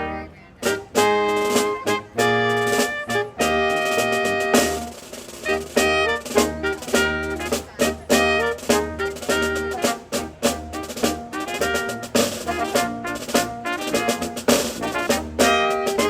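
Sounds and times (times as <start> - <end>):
brass band playing a carol: 0.0 - 16.0
steady drum beat: 0.6 - 16.0.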